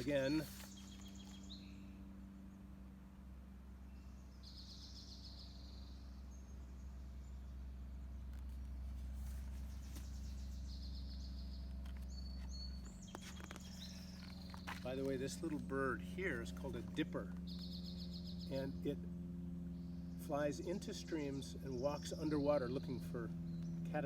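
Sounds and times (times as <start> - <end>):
small birds trilled chirps: 0.0 - 2.7, 3.8 - 19.0, 19.6 - 24.0
steady low hum: 0.0 - 24.0.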